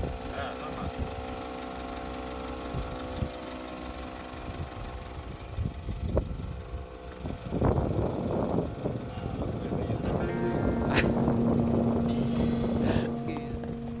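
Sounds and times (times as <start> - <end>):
motor running steadily: 0.0 - 14.0.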